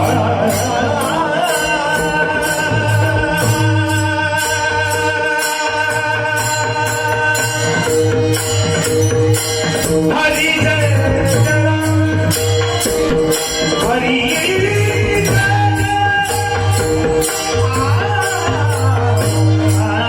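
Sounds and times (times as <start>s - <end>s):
person singing: 0.0s - 8.2s, 10.0s - 20.0s
jingling hand percussion: 0.0s - 20.0s
sustained instrumental tones: 0.0s - 20.0s.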